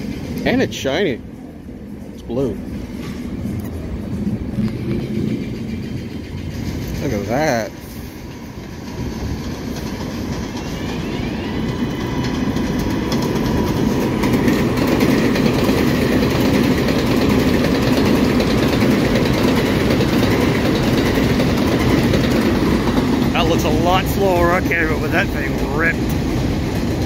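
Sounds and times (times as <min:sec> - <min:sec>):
subway train passing: 0:00.0 - 0:27.0
train wheels clattering over rail joints: 0:02.6 - 0:27.0.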